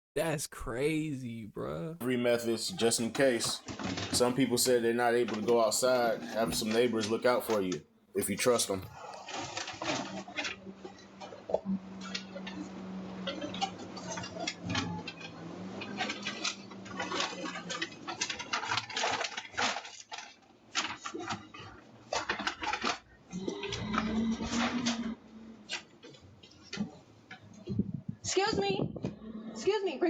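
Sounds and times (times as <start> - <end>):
clattering and rustling: 2.4 - 29.6.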